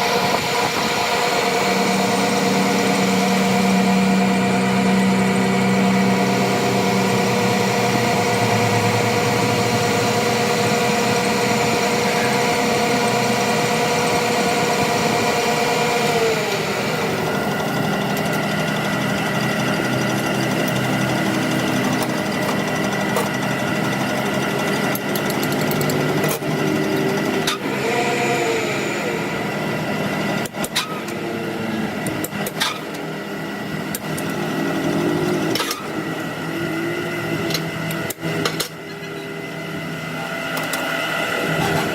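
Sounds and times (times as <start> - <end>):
machine motor whining: 0.0 - 41.9.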